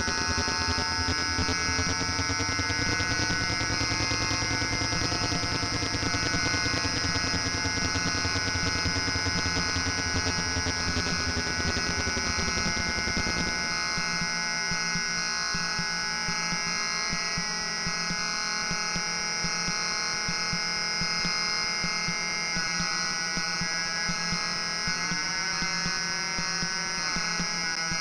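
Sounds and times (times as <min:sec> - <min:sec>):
buzzing electronic synthesizer drone: 0:00.0 - 0:28.0
fast low electronic pulsing: 0:00.0 - 0:28.0.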